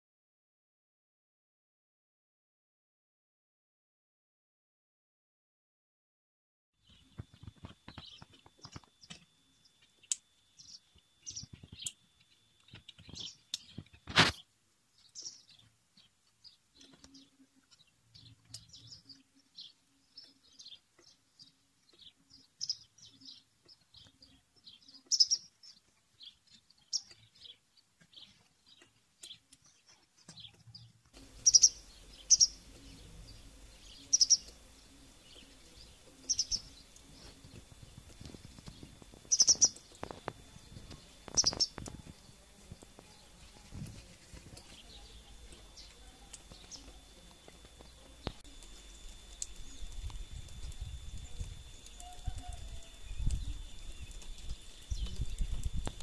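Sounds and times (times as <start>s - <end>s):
small birds chirping: 6.8s - 56.0s.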